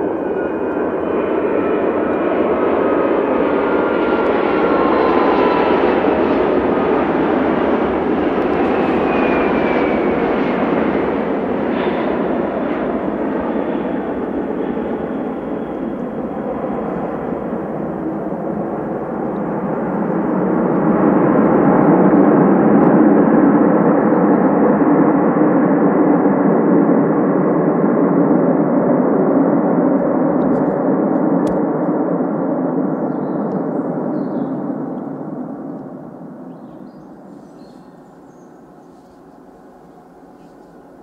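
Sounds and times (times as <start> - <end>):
jet engines roaring in reverse thrust: 0.0 - 41.0.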